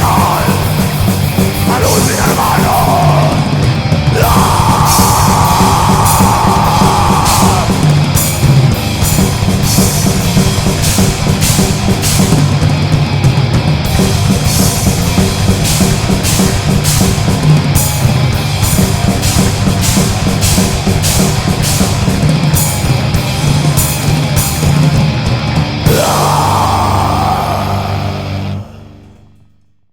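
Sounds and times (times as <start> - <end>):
pounding drums and cymbals: 0.0 - 28.5
heavy metal music: 0.0 - 29.7.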